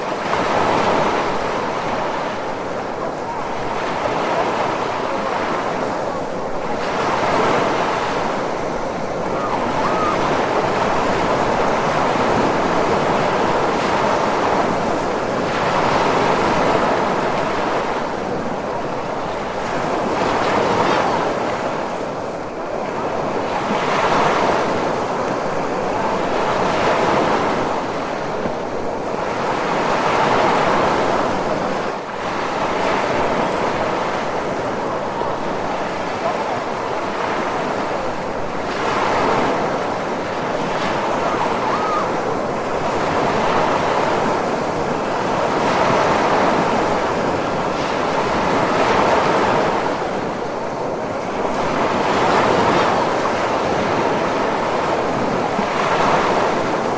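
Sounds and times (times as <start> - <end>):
ocean waves surf: 0.0 - 56.9.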